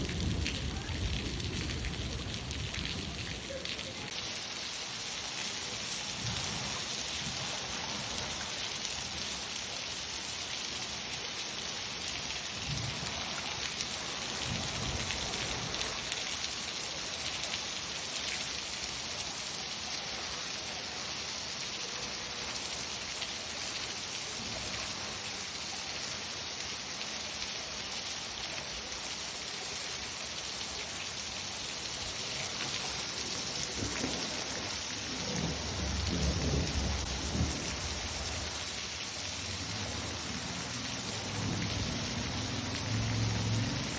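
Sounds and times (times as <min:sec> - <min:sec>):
steady rain patter: 0:00.0 - 0:43.9.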